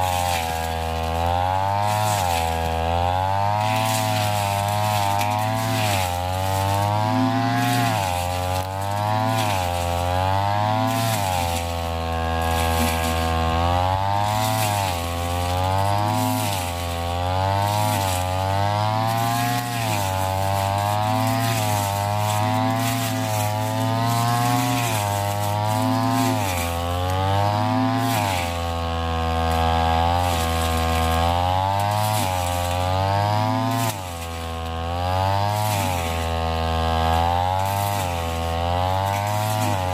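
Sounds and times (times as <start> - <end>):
brush cutter engine mowing grass: 0.0 - 39.9.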